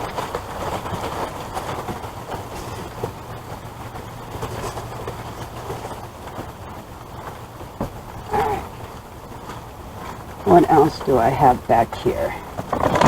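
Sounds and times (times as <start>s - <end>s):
low steady hum: 0.0s - 13.0s
rain pattering: 0.0s - 13.0s.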